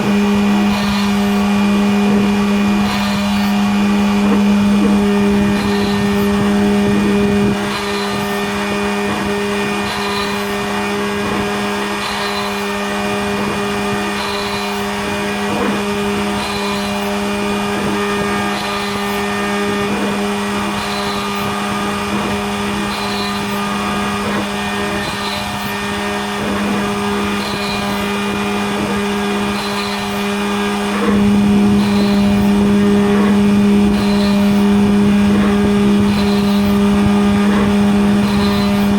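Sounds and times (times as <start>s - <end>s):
machine motors humming whine: 0.0s - 38.9s.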